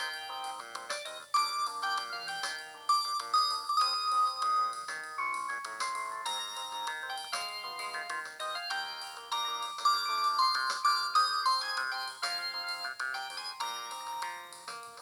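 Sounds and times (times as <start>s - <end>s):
polyphonic phone ringtone: 0.0s - 15.0s.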